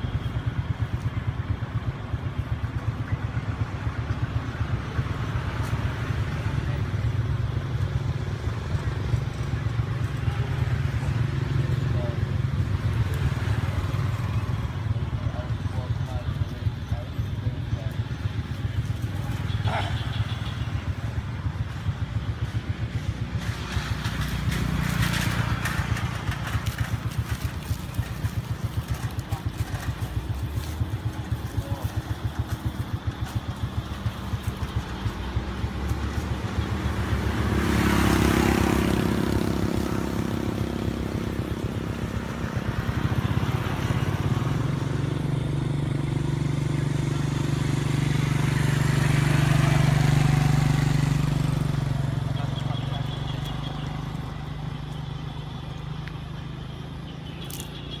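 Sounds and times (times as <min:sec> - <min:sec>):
motor engine running: 0:00.1 - 0:58.0.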